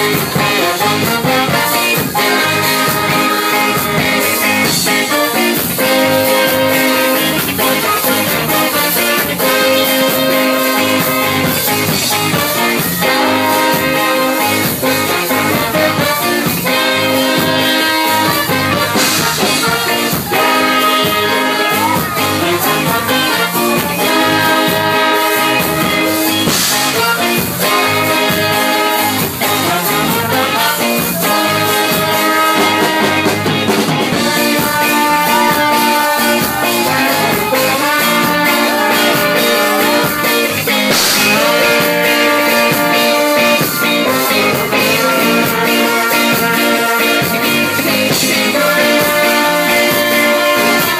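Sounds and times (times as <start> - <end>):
band playing upbeat song: 0.0 - 50.9.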